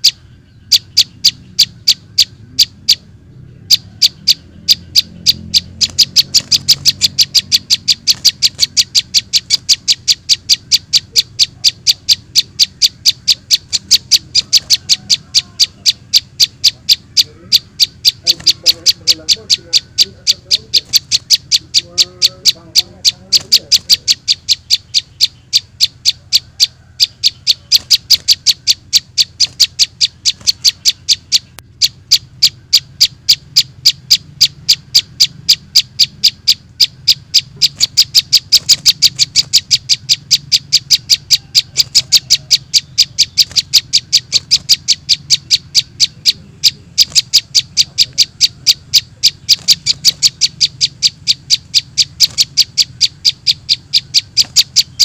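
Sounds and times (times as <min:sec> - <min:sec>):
high bird chirps: 0:00.0 - 0:55.0.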